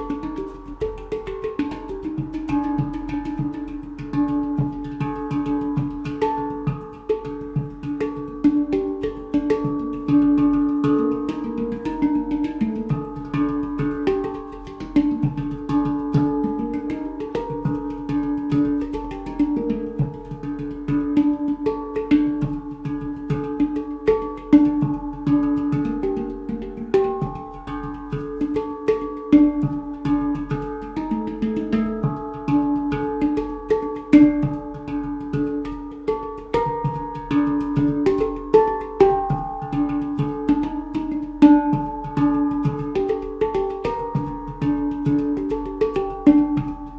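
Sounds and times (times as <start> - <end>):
handpan played by hand: 0.0 - 46.9.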